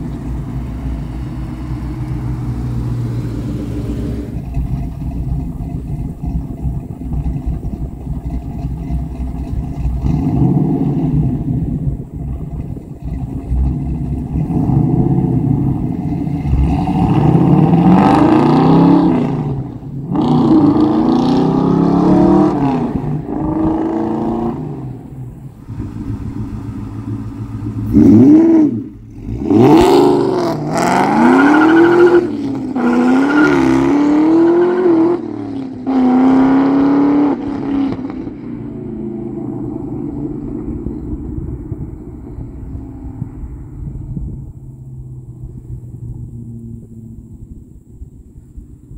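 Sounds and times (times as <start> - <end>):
car engine revving: 0.0 - 48.1.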